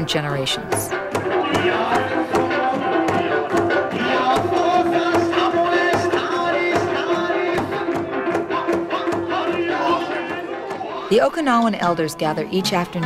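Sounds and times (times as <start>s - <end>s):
barrel drums beating: 0.0s - 13.0s.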